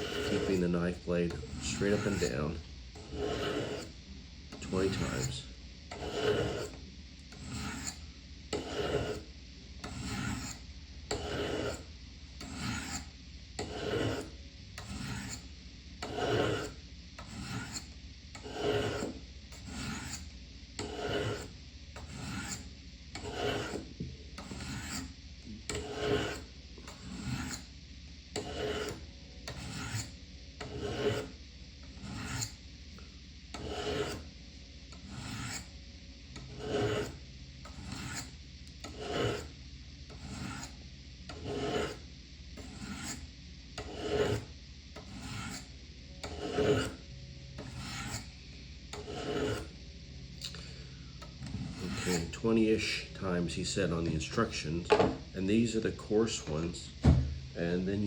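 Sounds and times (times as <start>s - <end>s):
knife scraping on ceramic rods: 0.0s - 3.9s, 4.5s - 25.1s, 25.7s - 27.7s, 28.3s - 32.6s, 33.5s - 34.3s, 34.9s - 35.7s, 36.4s - 39.5s, 40.1s - 42.0s, 42.6s - 48.3s, 48.9s - 49.7s, 50.4s - 55.2s.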